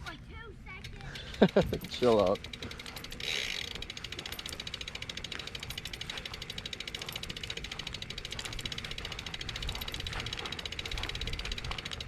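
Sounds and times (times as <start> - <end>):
bicycle freewheel clicking: 0.8 - 12.0.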